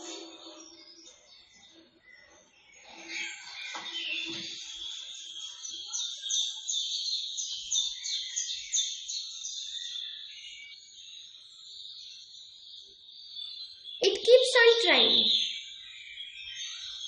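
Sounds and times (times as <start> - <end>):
chirring chorus of animals: 0.0 - 13.8.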